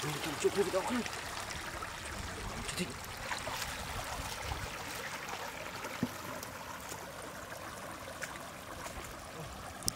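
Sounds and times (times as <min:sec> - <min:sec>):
water running over rocks: 0:00.0 - 0:09.9.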